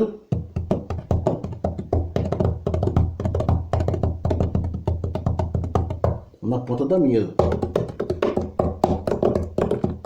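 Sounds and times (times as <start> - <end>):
hands drumming on wooden table: 0.3 - 6.3, 7.4 - 10.0.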